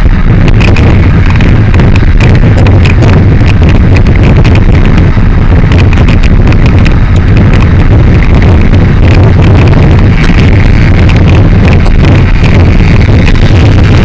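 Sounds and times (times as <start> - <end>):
crackling clicks: 0.0 - 14.0
motorcycle engine cruising: 0.0 - 14.0
wind noise on microphone: 0.0 - 14.0.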